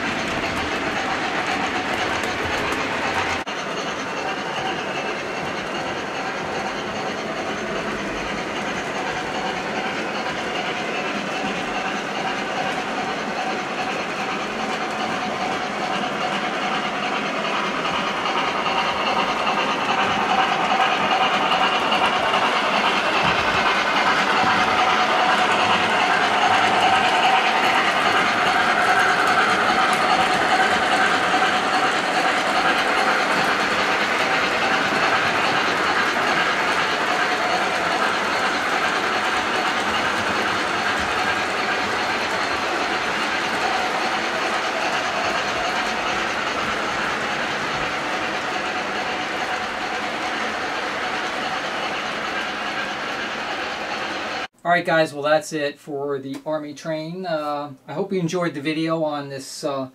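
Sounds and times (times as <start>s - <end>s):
model train wheels rattling: 0.0s - 54.5s.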